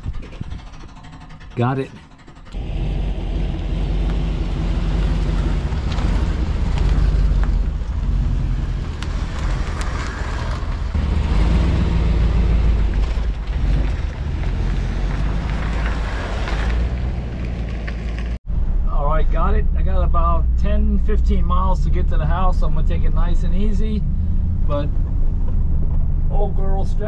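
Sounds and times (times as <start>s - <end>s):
vehicle engine low rumble: 0.0s - 27.0s.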